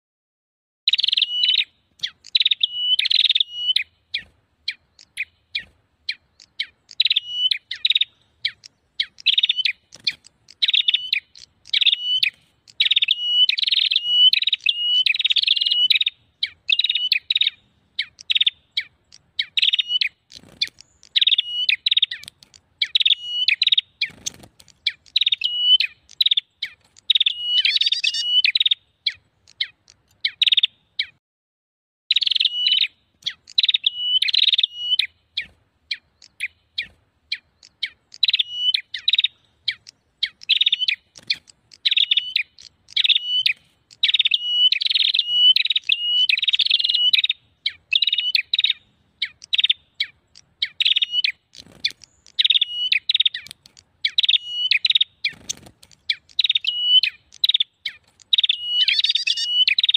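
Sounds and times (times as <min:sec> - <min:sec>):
warbler chirping: 0:00.9 - 0:31.2, 0:32.1 - 0:59.9.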